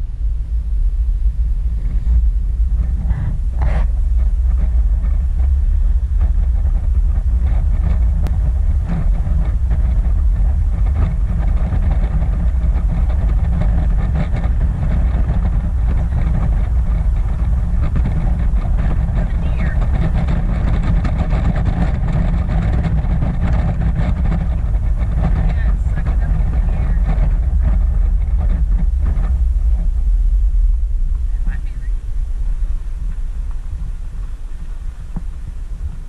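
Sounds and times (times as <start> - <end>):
wind and road noise in vehicle: 0.0 - 36.0.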